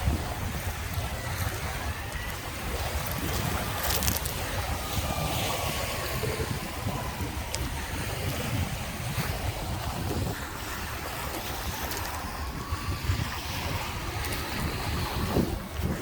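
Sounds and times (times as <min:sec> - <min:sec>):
waves washing onto beach: 0:00.0 - 0:16.0
wind buffeting microphone: 0:00.0 - 0:16.0.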